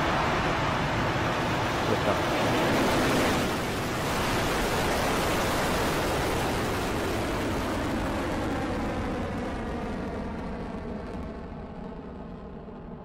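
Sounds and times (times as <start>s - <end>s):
rocket engines rushing roar: 0.0s - 13.0s.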